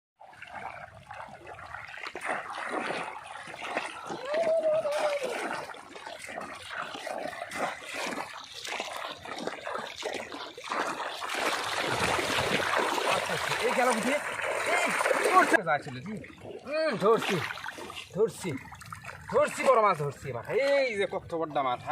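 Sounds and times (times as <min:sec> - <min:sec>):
shallow water splashing: 0:00.2 - 0:21.9.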